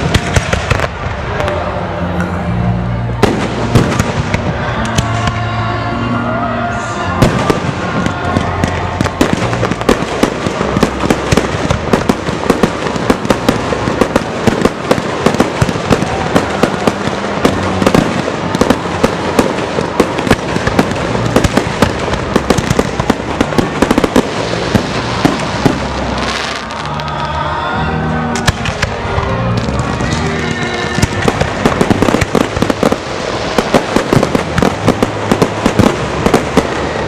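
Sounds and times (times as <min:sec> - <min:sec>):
fireworks bangs and crackles: 0:00.0 - 0:05.8, 0:06.8 - 0:27.5, 0:28.2 - 0:37.0.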